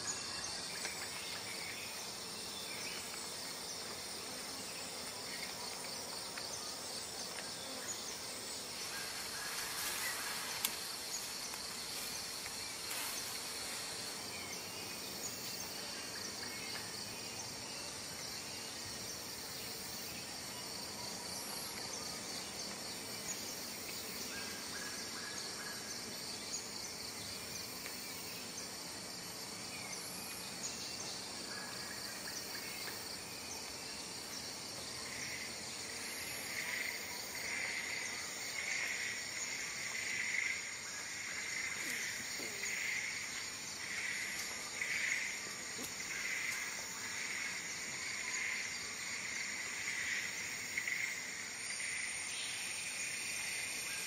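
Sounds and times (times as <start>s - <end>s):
background hiss: 0.0s - 54.0s
insects pulsing trill: 0.0s - 54.0s.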